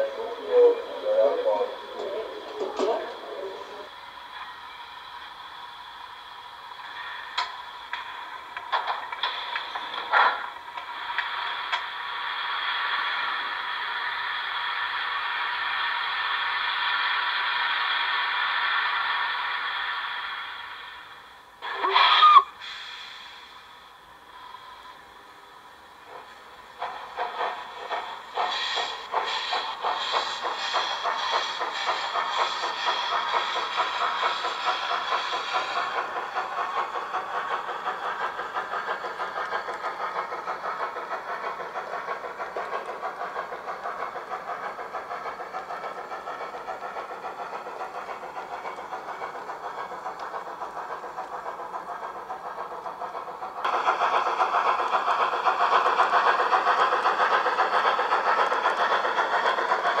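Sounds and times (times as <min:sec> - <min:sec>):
model steam locomotive chuffing: 0:00.0 - 1:00.0.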